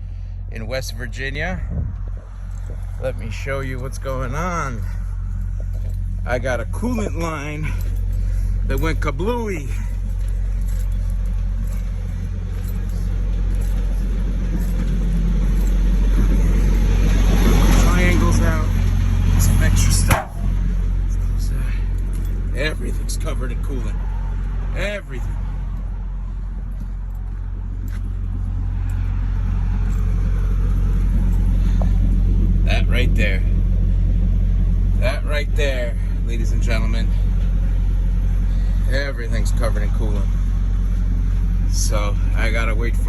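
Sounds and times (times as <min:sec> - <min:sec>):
vehicle engine rumble: 0:00.0 - 0:43.0.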